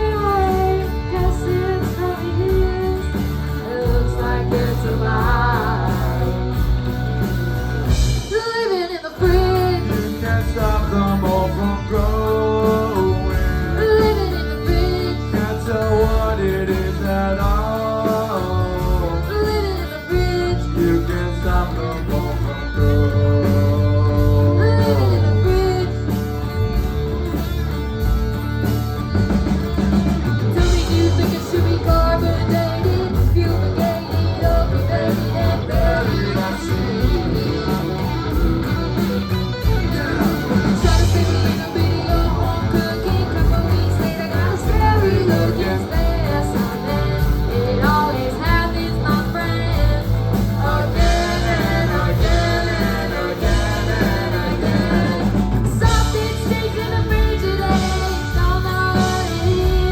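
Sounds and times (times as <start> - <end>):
electric guitar: 0.0 - 59.9
rock band playing: 0.0 - 59.9.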